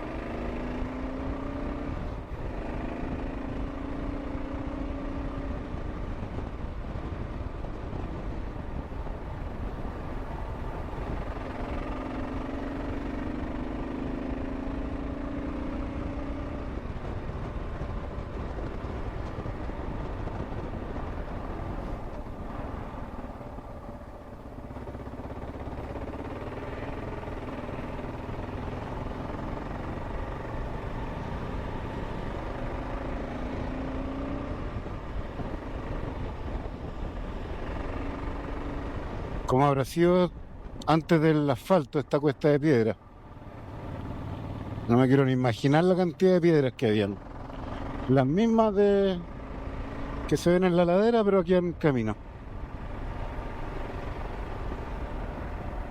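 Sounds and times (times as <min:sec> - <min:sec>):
motorcycle engine running: 0:00.0 - 0:39.5, 0:43.0 - 0:46.0, 0:46.7 - 0:51.1, 0:51.9 - 0:55.9
road and wind noise: 0:00.0 - 0:55.9.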